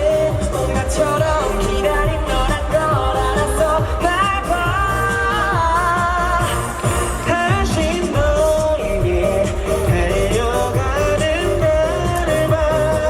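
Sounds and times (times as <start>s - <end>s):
man singing: 0.0s - 13.0s
pop backing beat: 0.0s - 13.0s.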